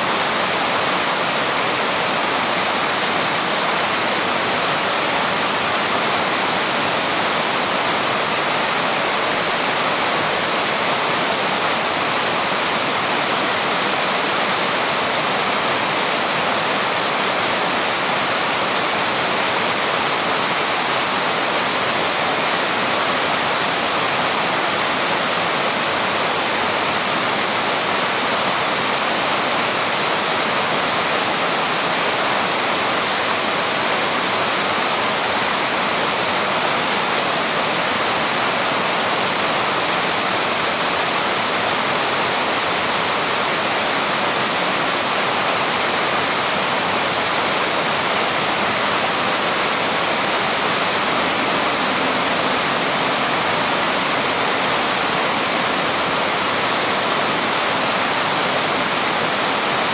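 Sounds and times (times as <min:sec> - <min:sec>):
waterfall pouring over rock: 0:00.0 - 0:59.9.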